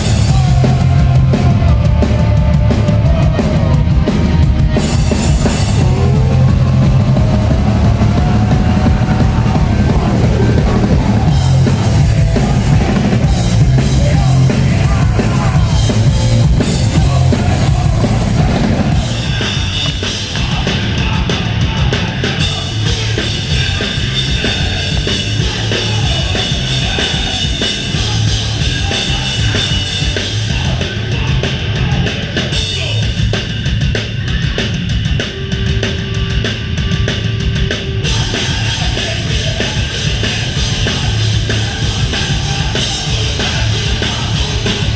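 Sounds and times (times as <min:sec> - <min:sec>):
bass guitar: 0:00.0 - 0:44.9
distorted guitars: 0:00.0 - 0:44.9
pounding drums: 0:00.0 - 0:44.9.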